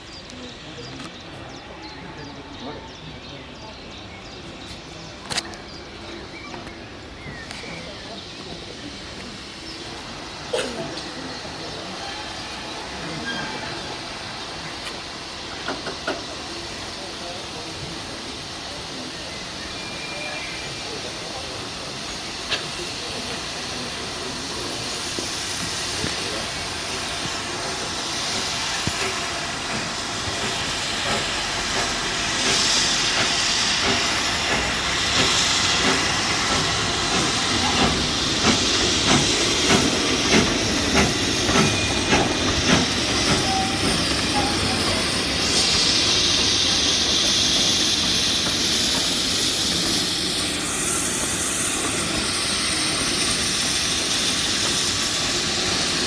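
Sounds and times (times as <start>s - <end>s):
hissing steam: 0.0s - 56.0s
steam locomotive running: 0.0s - 56.0s.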